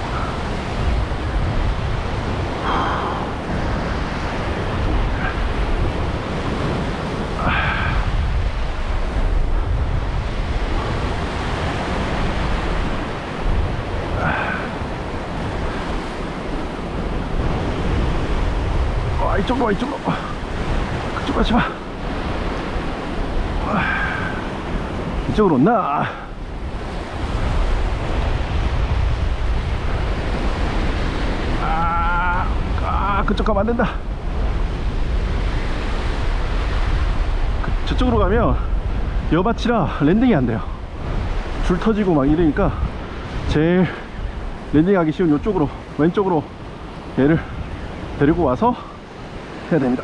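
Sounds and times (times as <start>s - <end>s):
surf breaking over rocks: 0.0s - 50.0s
wind on microphone: 0.0s - 50.0s.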